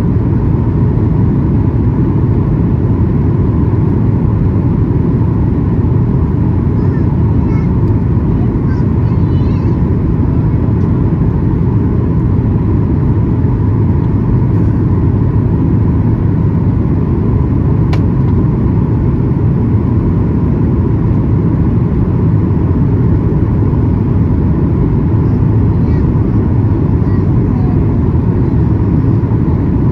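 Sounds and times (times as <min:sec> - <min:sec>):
aircraft cabin rumble: 0:00.0 - 0:29.9
faint steady whine: 0:00.0 - 0:29.9.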